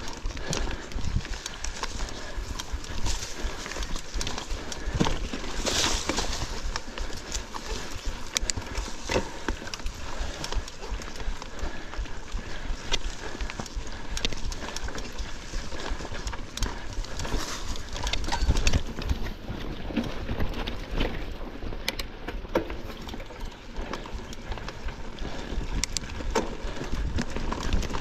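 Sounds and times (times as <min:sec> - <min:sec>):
mountain bike rattling over trail: 0:00.0 - 0:28.0.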